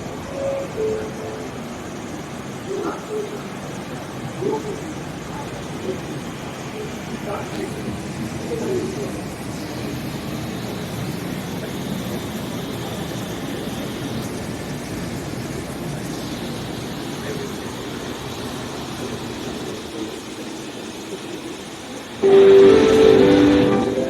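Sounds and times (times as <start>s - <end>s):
train rumbling hiss: 0.0s - 24.0s.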